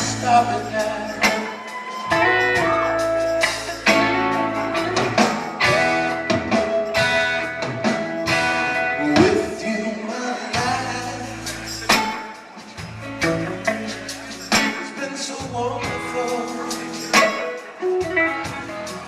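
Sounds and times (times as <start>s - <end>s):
guitar lines: 0.0s - 19.0s
soul band playing a slow ballad: 0.0s - 19.0s.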